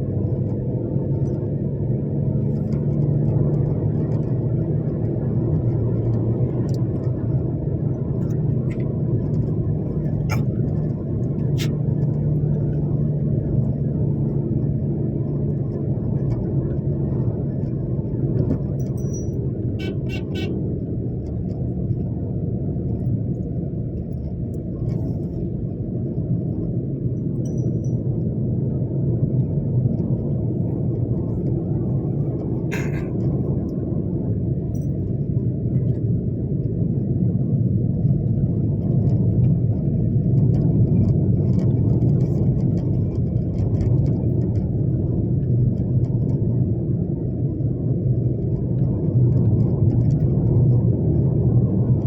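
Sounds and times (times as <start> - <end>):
vehicle engine drone: 0.0 - 52.0.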